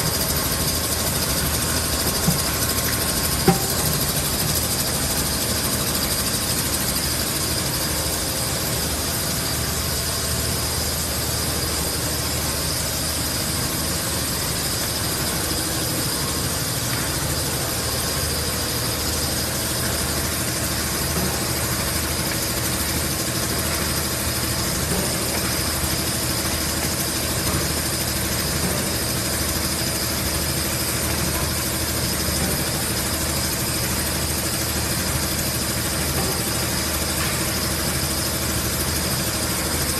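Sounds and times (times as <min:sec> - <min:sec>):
filling machine droning: 0:00.0 - 0:39.9
high machine whine: 0:00.0 - 0:39.9
low machine hum: 0:00.0 - 0:39.9.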